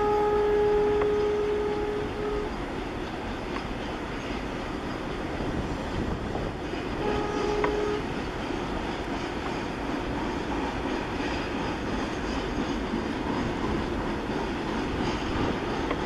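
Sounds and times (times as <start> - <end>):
freight train wheels on rail: 0.0 - 16.0.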